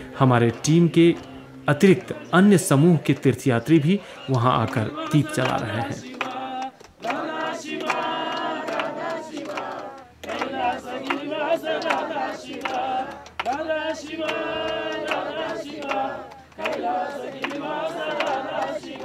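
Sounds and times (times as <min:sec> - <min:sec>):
group singing a hymn: 0:00.0 - 0:19.0
hands clapping in time: 0:00.3 - 0:19.0.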